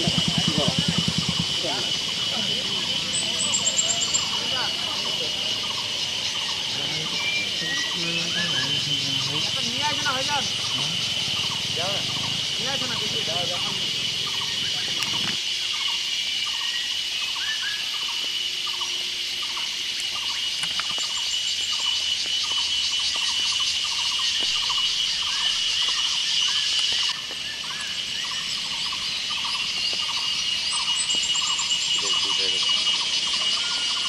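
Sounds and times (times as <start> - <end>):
high-pitched insect chorus: 0.0 - 34.0
short lower insect call: 0.0 - 34.0.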